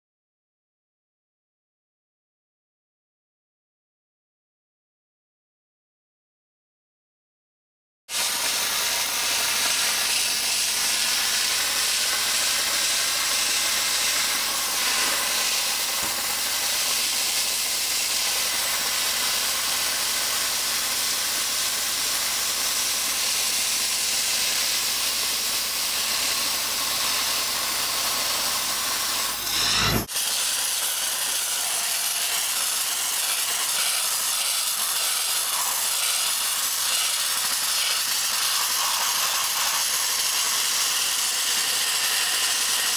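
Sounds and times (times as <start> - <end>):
dry ice blasting gun hissing: 8.1 - 42.9.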